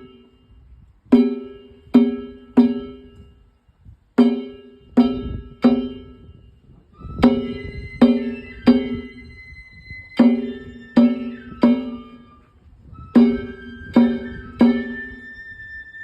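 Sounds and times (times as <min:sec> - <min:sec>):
low drum thuds: 0:01.1 - 0:03.4, 0:04.0 - 0:15.4.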